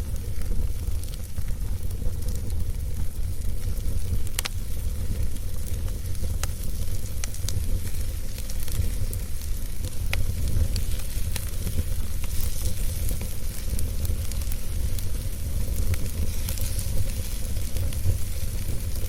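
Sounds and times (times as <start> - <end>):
wood fire burning: 0.0 - 19.0.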